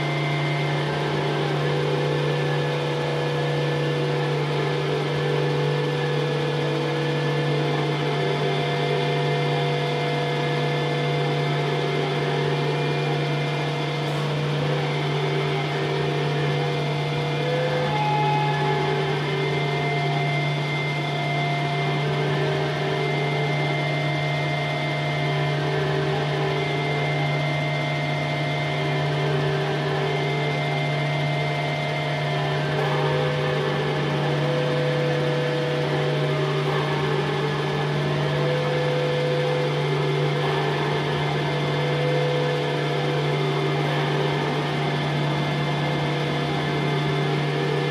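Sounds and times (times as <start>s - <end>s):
low hum: 0.0s - 47.9s
sustained drone tones: 0.0s - 47.9s.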